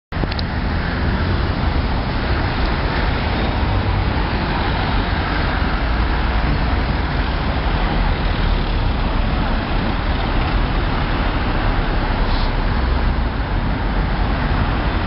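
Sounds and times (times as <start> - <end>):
road traffic passing: 0.1 - 15.0.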